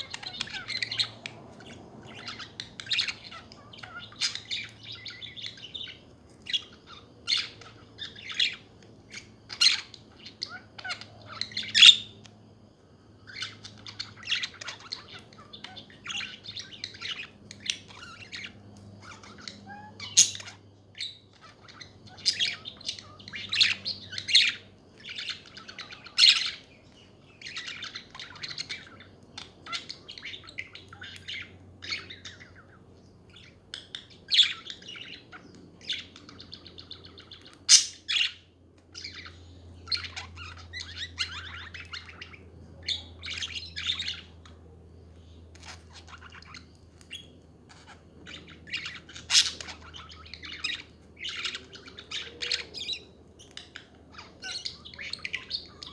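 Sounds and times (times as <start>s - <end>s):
budgerigars chattering: 0.0s - 12.2s, 13.2s - 55.9s.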